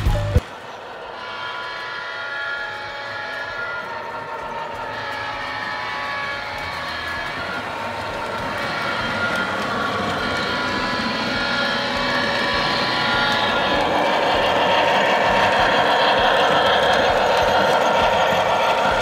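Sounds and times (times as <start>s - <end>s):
metal wheels rolling on track: 0.0s - 19.0s
model train motor whine: 0.0s - 19.0s.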